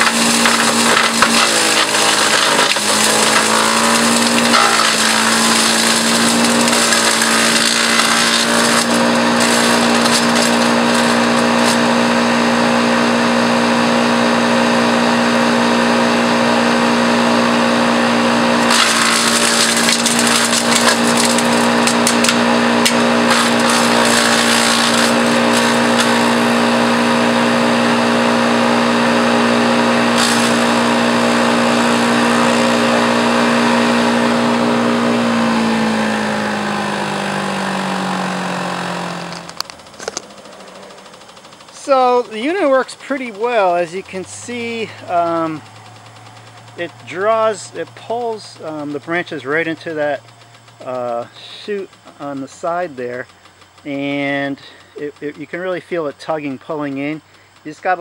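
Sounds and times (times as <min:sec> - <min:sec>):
wood crackling being chipped: 0:00.0 - 0:13.8, 0:17.9 - 0:58.0
wood chipper motor hum: 0:00.0 - 0:58.0.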